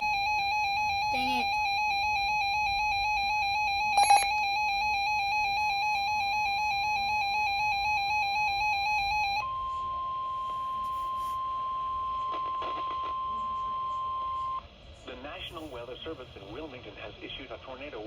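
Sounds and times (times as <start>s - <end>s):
buzzy electronic alarm tone: 0.0s - 14.6s
steady single-pitch warning tone: 0.0s - 14.6s.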